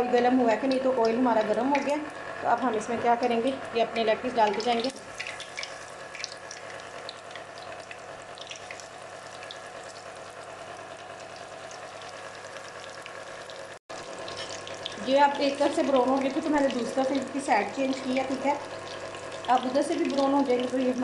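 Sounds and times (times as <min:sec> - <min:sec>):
chicken deep-frying in oil: 0:00.0 - 0:21.0.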